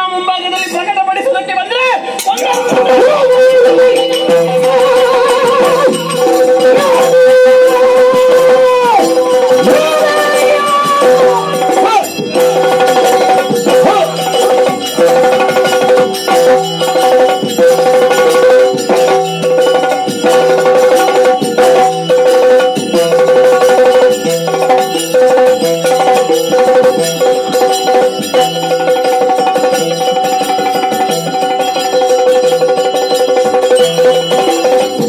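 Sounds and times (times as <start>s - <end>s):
drum beating driving rhythm: 1.9s - 35.0s
hand cymbals: 2.1s - 35.0s.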